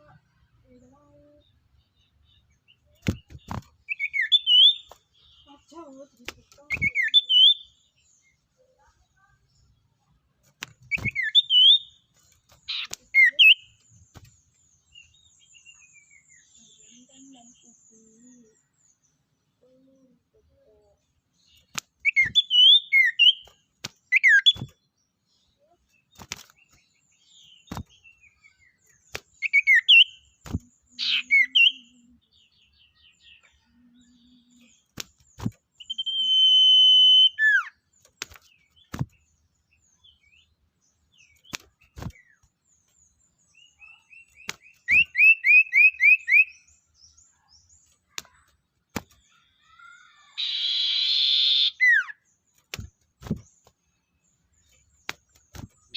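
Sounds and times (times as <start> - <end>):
songbird calling: 0.0 - 9.1, 10.8 - 48.5, 49.2 - 55.9.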